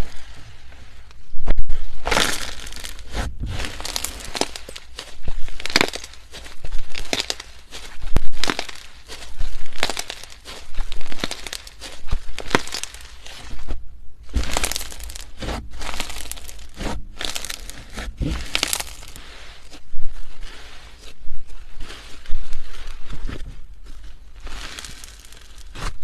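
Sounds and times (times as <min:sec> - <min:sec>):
slime squelching and crackling: 0:00.0 - 0:26.0.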